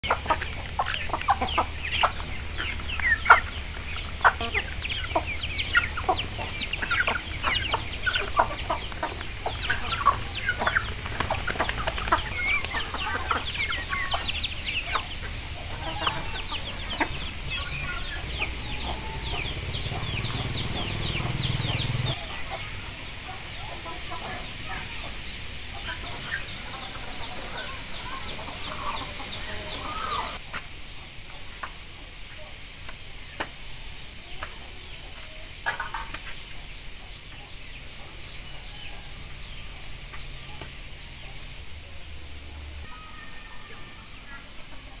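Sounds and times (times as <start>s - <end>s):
chickens clucking and cheeping: 0.0s - 45.0s.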